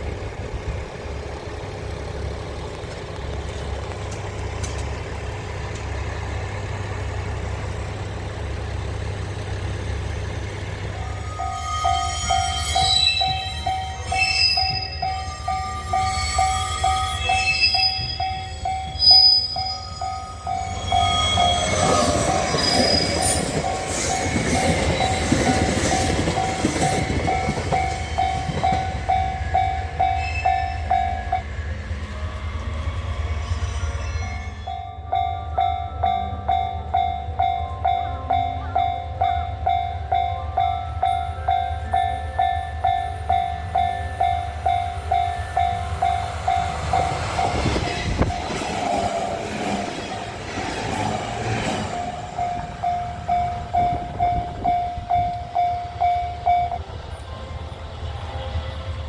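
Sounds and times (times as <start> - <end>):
train rumbling and clattering past: 0.0 - 59.0.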